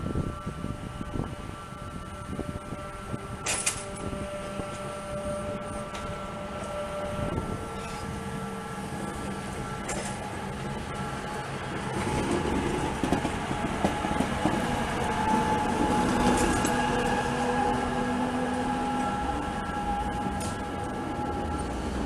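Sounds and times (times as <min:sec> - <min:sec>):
railcar running gear rumble: 0:00.0 - 0:22.0.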